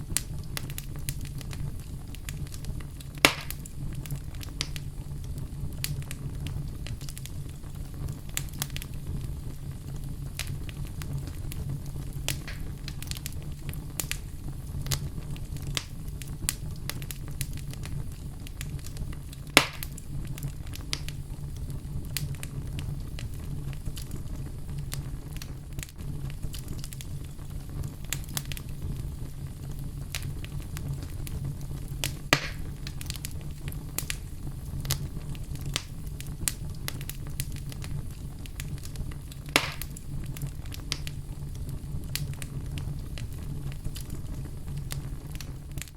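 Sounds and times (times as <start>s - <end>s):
burning wood popping: 0.0s - 45.9s
low rumble of flames: 0.0s - 45.9s
wood fire crackling: 0.0s - 45.9s.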